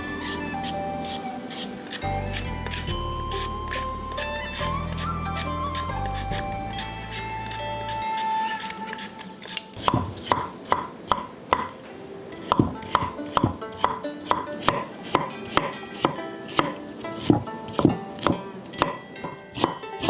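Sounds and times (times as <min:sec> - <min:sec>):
quiet background music: 0:00.0 - 0:20.0
knife chopping on cutting board: 0:00.6 - 0:03.9, 0:05.8 - 0:11.7, 0:12.4 - 0:19.8.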